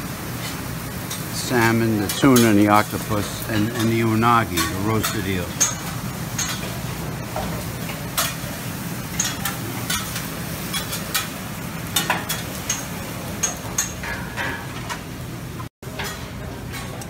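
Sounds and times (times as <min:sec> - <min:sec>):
clinks of tongs and plates: 0:00.4 - 0:06.8, 0:07.4 - 0:08.4, 0:09.1 - 0:11.3, 0:12.0 - 0:15.0, 0:15.9 - 0:17.0.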